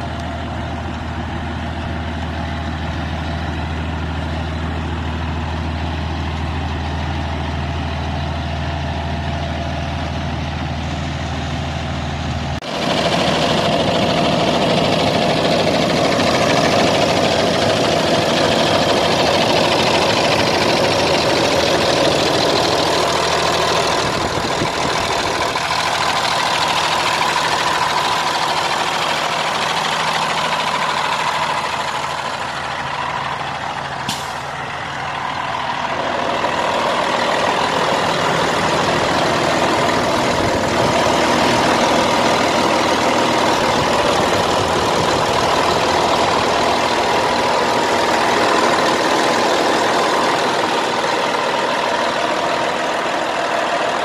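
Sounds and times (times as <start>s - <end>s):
diesel engine idling: 0.0s - 54.0s
steady engine whine: 0.0s - 54.0s.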